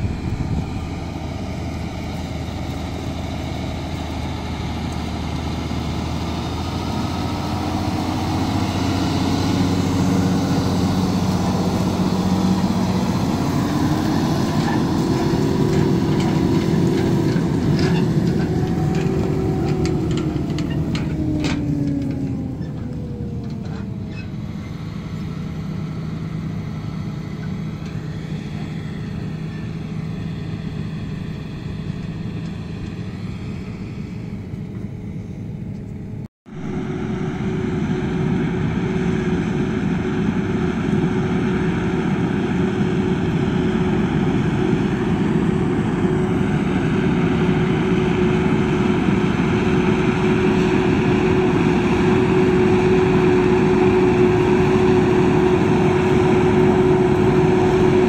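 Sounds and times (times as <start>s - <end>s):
forage harvester chopping with whine: 0.0s - 35.2s, 36.5s - 58.0s
tractor engine running: 0.0s - 58.0s
truck engine running: 0.0s - 58.0s.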